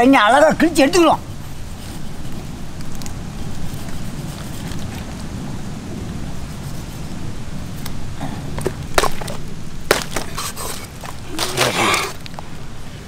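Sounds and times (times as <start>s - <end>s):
palm fronds rustling: 0.0s - 13.0s
steady low rumble: 0.0s - 13.0s
sharp crackles: 1.3s - 12.6s.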